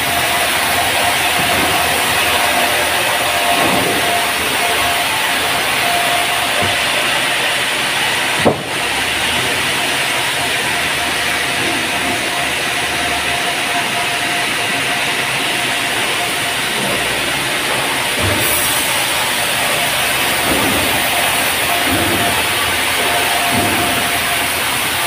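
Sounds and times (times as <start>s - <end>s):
band saw cutting log: 0.0s - 25.0s.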